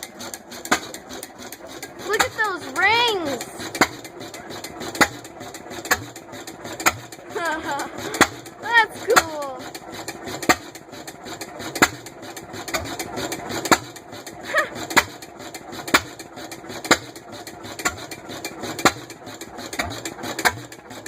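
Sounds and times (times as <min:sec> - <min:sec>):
stationary engine exhaust pops: 0:00.0 - 0:02.4, 0:03.7 - 0:08.6, 0:09.8 - 0:20.9
engine mechanical clatter: 0:00.0 - 0:21.0.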